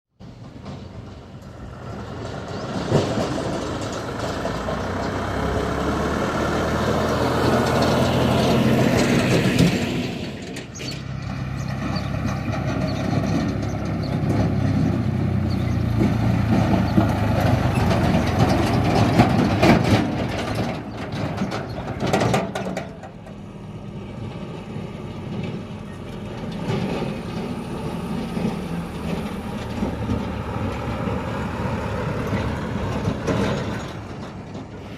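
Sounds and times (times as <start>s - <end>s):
diesel engine revving: 0.2s - 34.9s.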